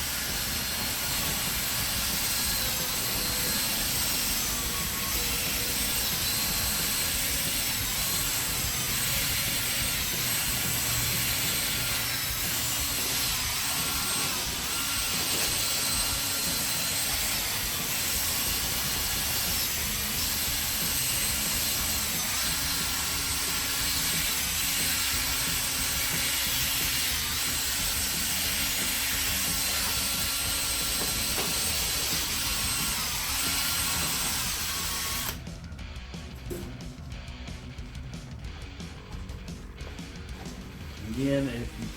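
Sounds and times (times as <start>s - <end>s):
electric drill motor whine: 0.0s - 35.6s.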